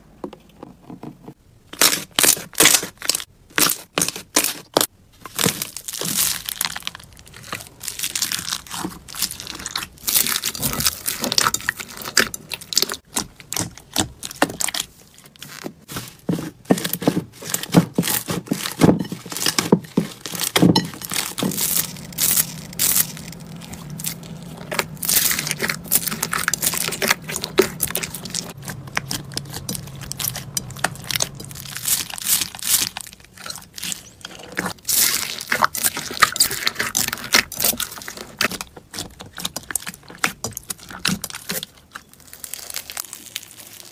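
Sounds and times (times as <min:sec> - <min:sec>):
slime crackling and popping: 0:01.7 - 0:15.9, 0:17.3 - 0:43.9.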